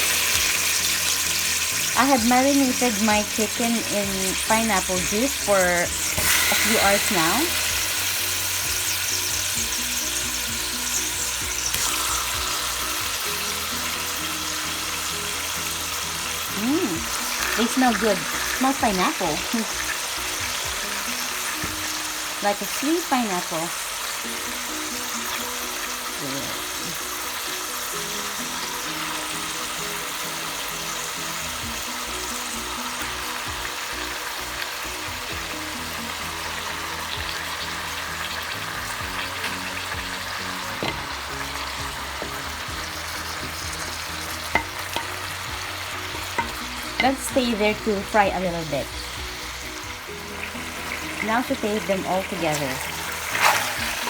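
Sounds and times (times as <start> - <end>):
chicken sizzling in oil: 0.0 - 54.0
soft background music: 0.0 - 54.0.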